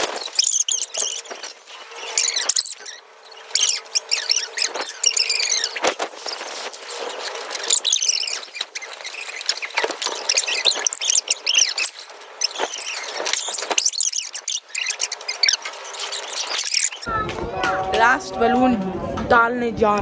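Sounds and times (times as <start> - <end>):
rubber balloons squeaking: 0.0 - 17.2.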